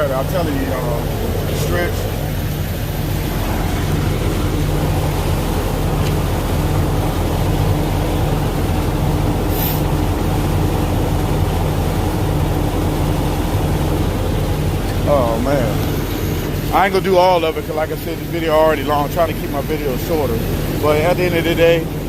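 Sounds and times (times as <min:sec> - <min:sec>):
truck diesel engine idling: 0:00.0 - 0:22.0.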